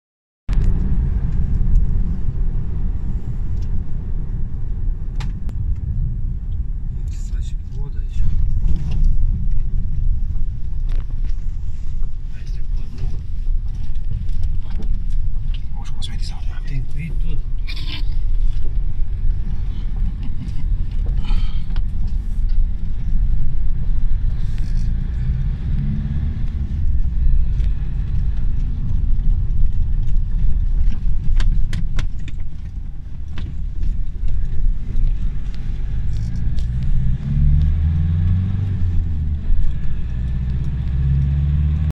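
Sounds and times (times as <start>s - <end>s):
engine and tyre rumble: 0.5s - 42.0s.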